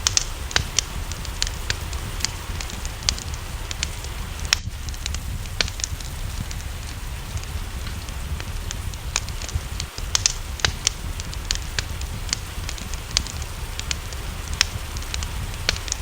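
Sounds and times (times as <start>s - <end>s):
low rumble: 0.0s - 16.0s
rain hissing: 0.0s - 16.0s
wood fire crackling: 0.0s - 16.0s.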